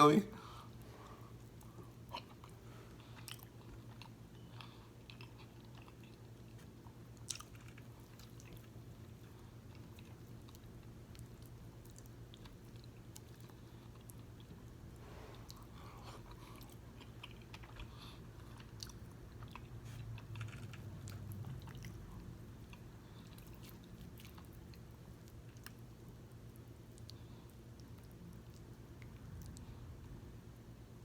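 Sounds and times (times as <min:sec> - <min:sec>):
steady low hum: 0:00.0 - 0:31.0
chewing soft food: 0:00.4 - 0:31.0.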